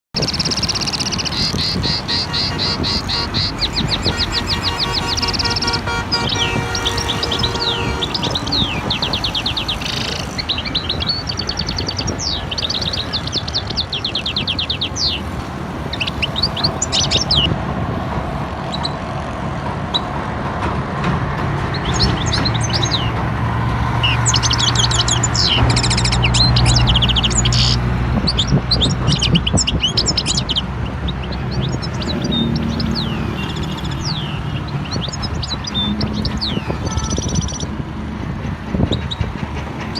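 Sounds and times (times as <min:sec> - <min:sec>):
small birds chirping: 0:00.1 - 0:17.6, 0:18.6 - 0:19.1, 0:21.7 - 0:37.8, 0:38.8 - 0:39.9.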